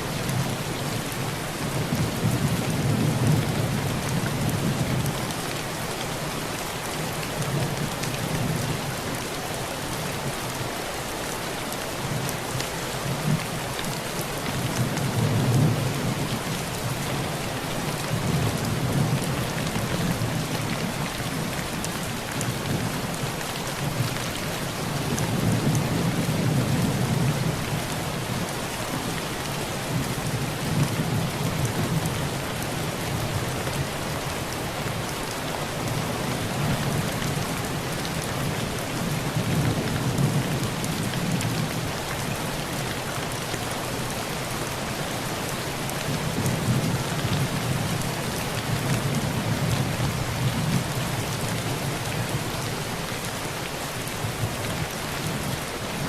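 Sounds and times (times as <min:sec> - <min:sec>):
heavy rain on a tin roof: 0:00.0 - 0:56.0.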